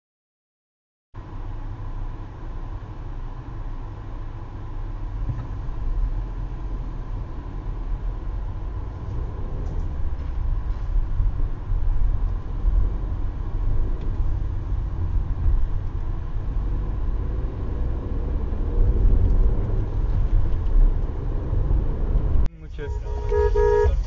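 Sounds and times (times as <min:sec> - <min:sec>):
car engine and tyre rumble: 0:01.2 - 0:24.0.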